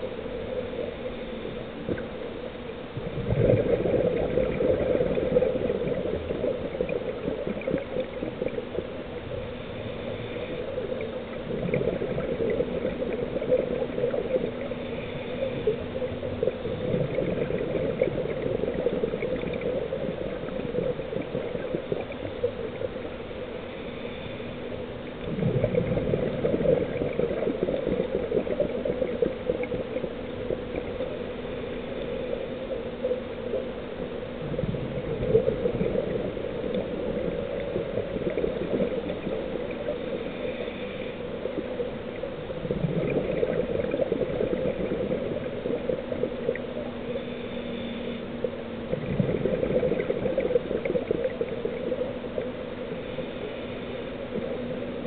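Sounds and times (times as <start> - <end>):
steady low hum: 0.0 - 55.0
bubbles gurgling underwater: 2.9 - 24.0, 24.7 - 47.2, 48.4 - 53.3.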